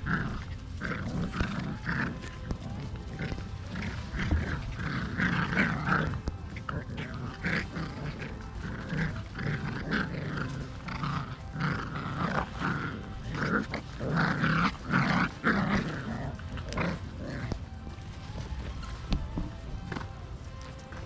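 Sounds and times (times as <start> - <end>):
puppies growling in play: 0.0 - 21.0.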